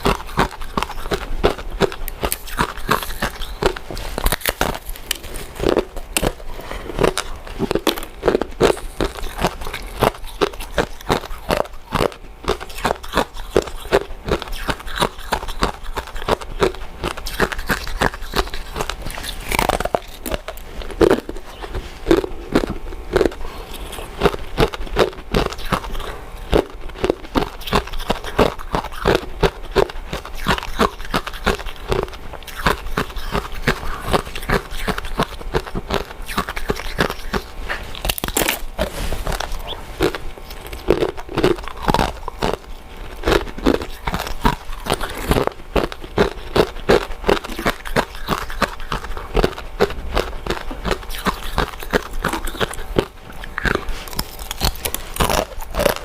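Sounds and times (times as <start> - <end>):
chewing with mouth clicks: 0.0 - 56.0.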